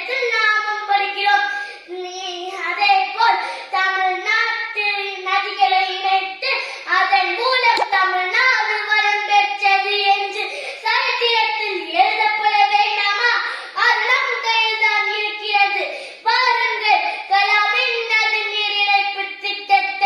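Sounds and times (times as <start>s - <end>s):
boy declaiming loudly: 0.0s - 20.0s.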